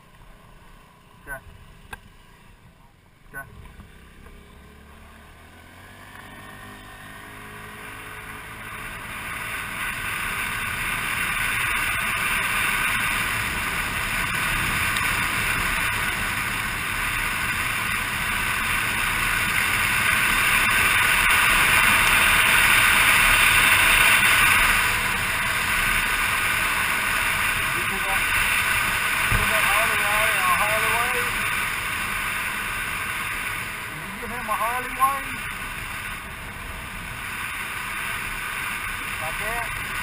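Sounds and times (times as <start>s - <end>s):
motor scooter engine accelerating: 3.4s - 40.0s.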